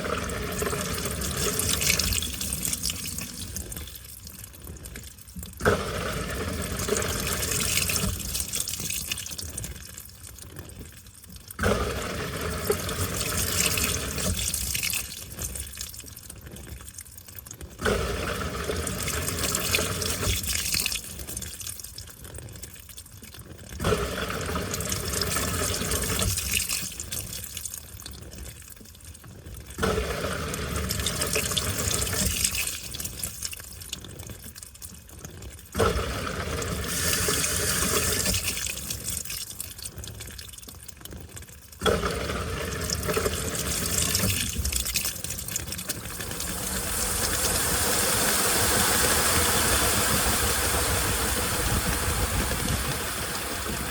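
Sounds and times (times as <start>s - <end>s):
washing machine water sloshing: 0.0s - 53.9s.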